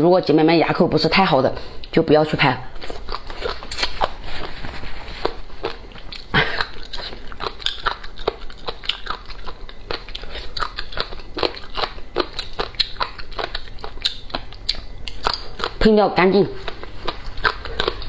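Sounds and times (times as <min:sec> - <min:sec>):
crunchy chewing and biting: 0:02.7 - 0:18.0.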